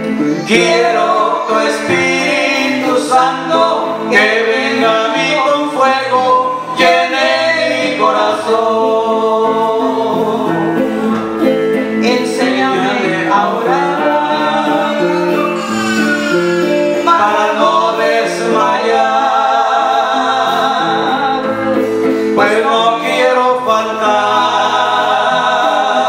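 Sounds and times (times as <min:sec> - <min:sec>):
bass guitar: 0:00.0 - 0:26.0
electric guitar: 0:00.0 - 0:26.0
man and woman singing: 0:00.0 - 0:26.0.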